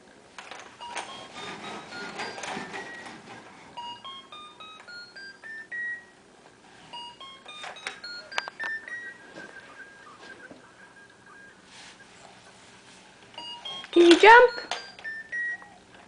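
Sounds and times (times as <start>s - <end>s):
electronic toy beeping tune: 0.8s - 6.2s, 6.9s - 12.1s, 13.4s - 15.8s.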